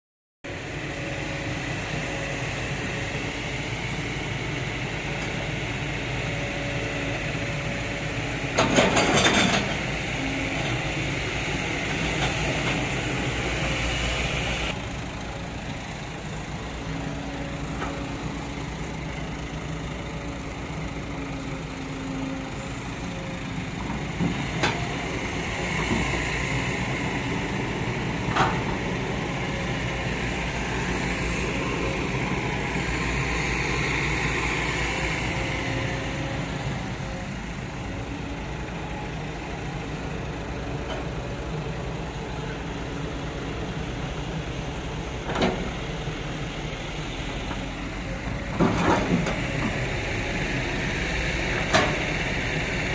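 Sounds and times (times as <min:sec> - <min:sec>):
excavator diesel engine humming: 0:00.5 - 0:52.9.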